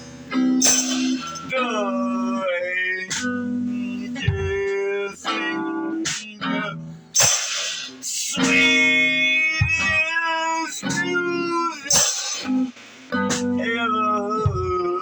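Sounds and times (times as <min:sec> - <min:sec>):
guitar playing notes and chords: 0:00.0 - 0:15.0.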